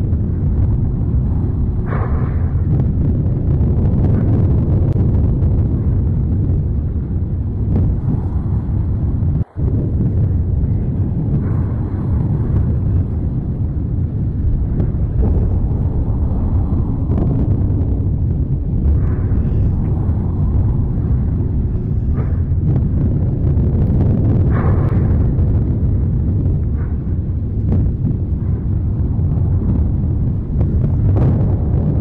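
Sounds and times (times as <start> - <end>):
eruption low rumble: 0.0 - 32.0.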